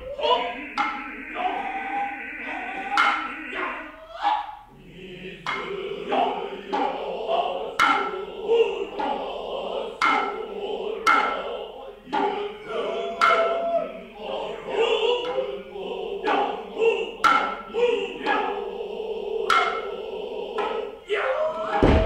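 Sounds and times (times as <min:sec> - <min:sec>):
men chanting in chorus: 0:00.0 - 0:22.0.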